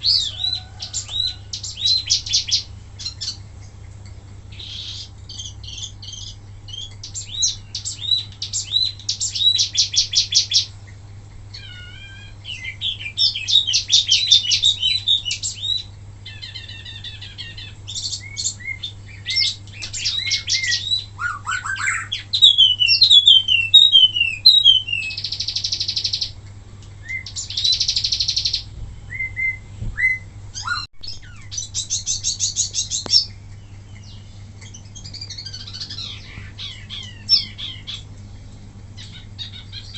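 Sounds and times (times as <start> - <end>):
songbird trilling and whistling: 0.0 - 3.8, 4.5 - 10.8, 11.5 - 26.4, 27.0 - 38.1, 39.0 - 39.9
low steady hum: 0.0 - 39.9.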